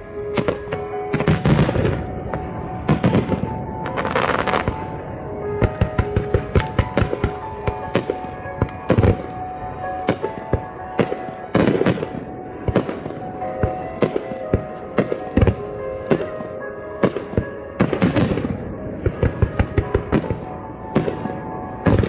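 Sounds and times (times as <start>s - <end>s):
music playing: 0.0s - 22.0s
fireworks bangs and booms: 0.2s - 22.0s.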